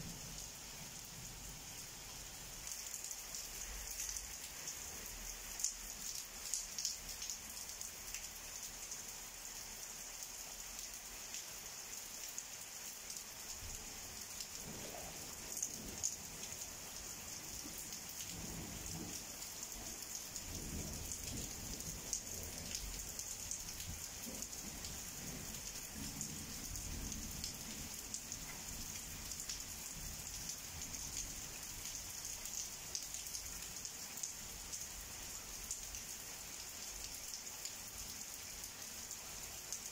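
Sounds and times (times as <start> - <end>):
heavy rain falling: 0.0 - 9.5, 10.1 - 39.9.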